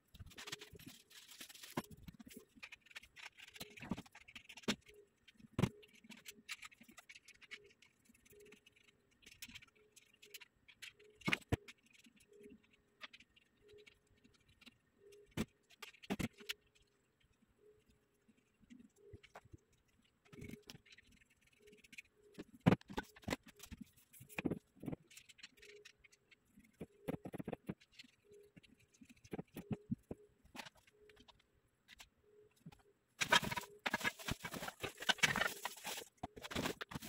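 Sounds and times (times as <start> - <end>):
rustling: 0.0 - 16.8, 18.3 - 37.0.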